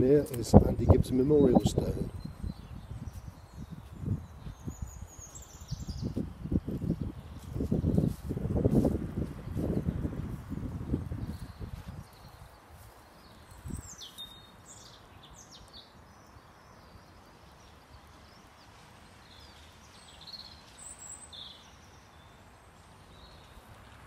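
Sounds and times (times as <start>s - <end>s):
small birds chirping: 0.0s - 23.8s
faint outdoor background: 0.0s - 24.0s.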